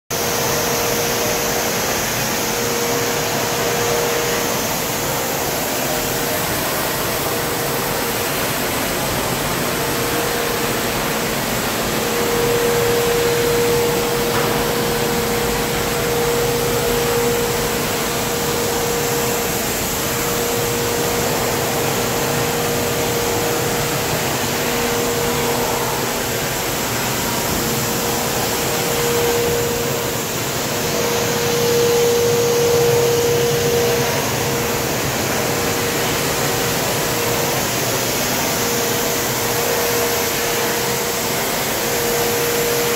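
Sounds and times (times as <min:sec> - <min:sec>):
dust collector fan running: 0:00.1 - 0:42.9.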